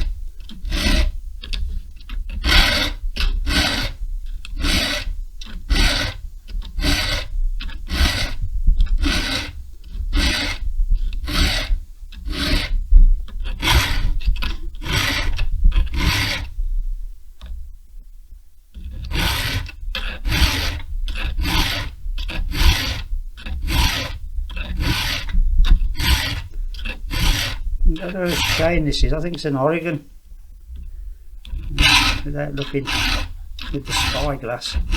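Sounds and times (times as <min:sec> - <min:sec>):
file rasping on metal chain: 0:00.0 - 0:16.6, 0:18.7 - 0:30.0, 0:31.4 - 0:34.9.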